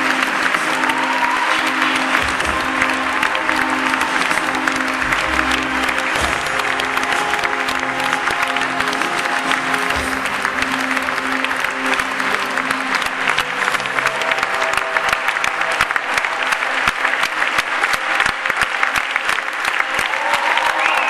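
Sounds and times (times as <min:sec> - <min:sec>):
audience applauding: 0:00.0 - 0:21.0
music playing: 0:00.0 - 0:21.0.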